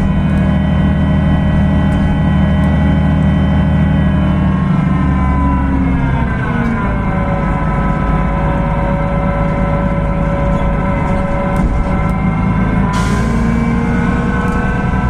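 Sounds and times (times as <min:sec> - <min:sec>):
bus diesel engine rumbling: 0:00.0 - 0:15.0
engine whine: 0:00.0 - 0:15.0.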